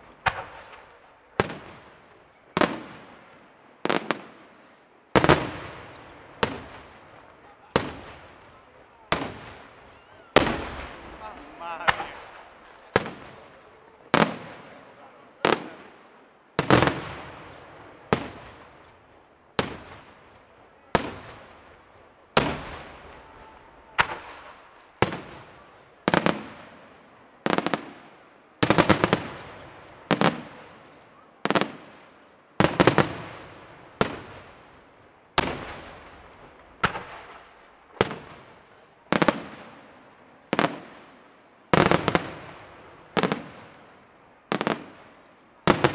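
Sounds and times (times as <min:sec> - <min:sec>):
firework bangs echoing: 0:00.0 - 0:45.9.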